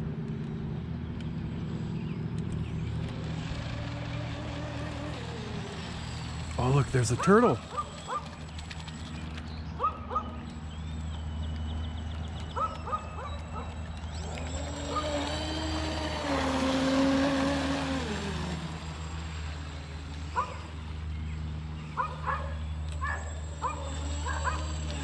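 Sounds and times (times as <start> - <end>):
electric motor whining: 2.0 - 9.7, 10.3 - 25.0.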